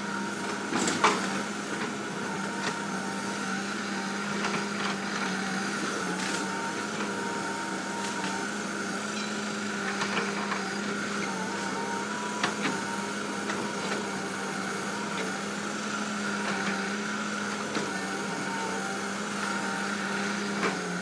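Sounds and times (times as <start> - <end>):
heavy machinery diesel drone: 0.0 - 21.0.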